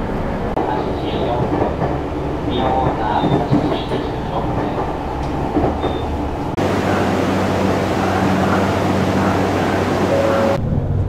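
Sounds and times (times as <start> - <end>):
railcar interior hum: 0.0 - 11.0.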